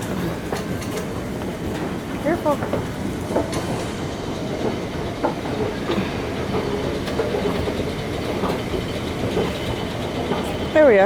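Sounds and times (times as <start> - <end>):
escalator running: 0.0 - 11.0.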